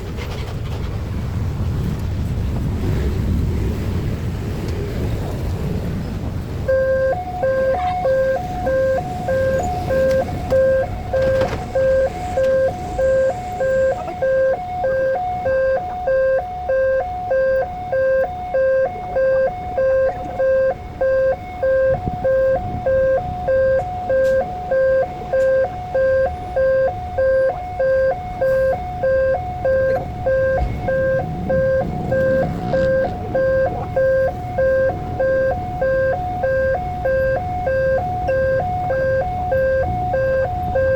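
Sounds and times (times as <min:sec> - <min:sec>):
low rumble of traffic: 0:00.0 - 0:40.9
level crossing two-tone alarm: 0:06.7 - 0:40.9.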